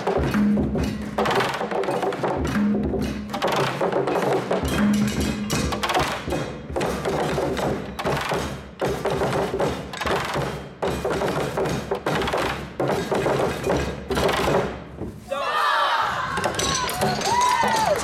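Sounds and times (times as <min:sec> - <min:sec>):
group drumming on barrels: 0:00.0 - 0:15.3, 0:16.1 - 0:18.0.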